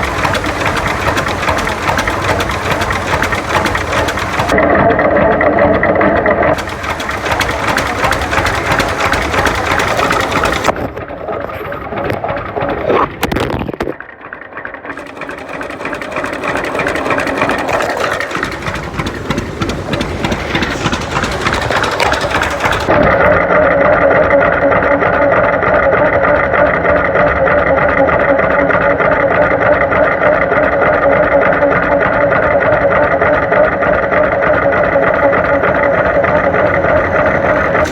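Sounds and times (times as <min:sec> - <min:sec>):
old engine clattering: 0:00.0 - 0:37.9.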